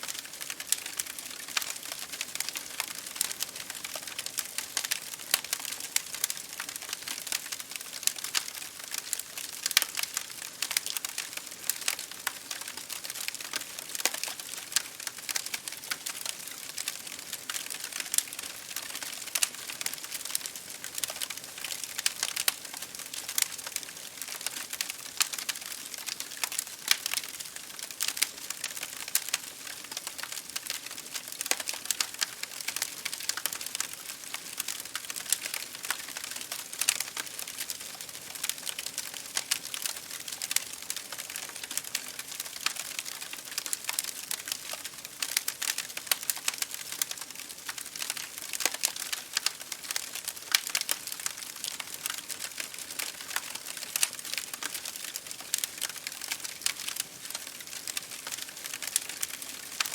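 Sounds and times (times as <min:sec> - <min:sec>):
wood fire crackling: 0:00.0 - 0:59.9
rain hitting a window: 0:00.2 - 0:59.9.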